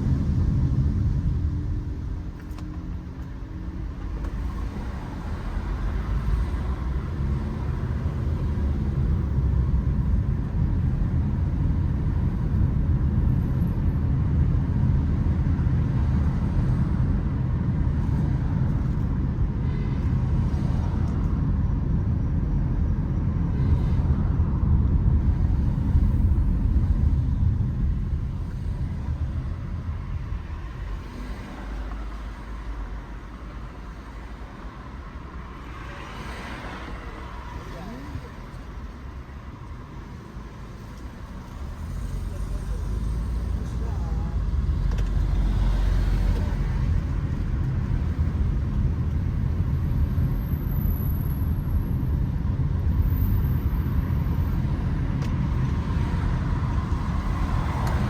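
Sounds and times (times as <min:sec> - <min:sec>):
motor vehicle rumble: 0:00.0 - 0:58.0
road noise: 0:00.0 - 0:58.0.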